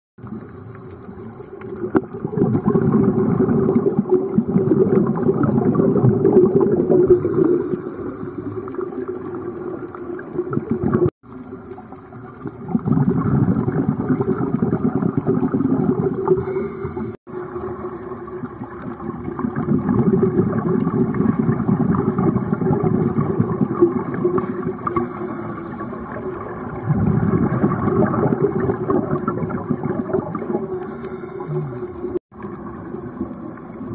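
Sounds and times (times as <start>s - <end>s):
water hiss: 0.2s - 33.8s
underwater bubbles gurgling: 0.2s - 33.9s.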